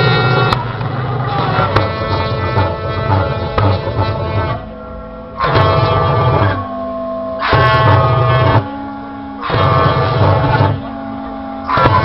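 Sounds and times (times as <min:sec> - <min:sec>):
sustained horn notes: 0:00.0 - 0:12.0.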